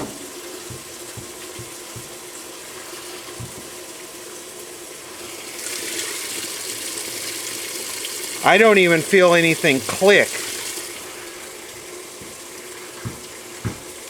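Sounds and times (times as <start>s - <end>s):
washing machine filling with water: 0.0s - 14.0s.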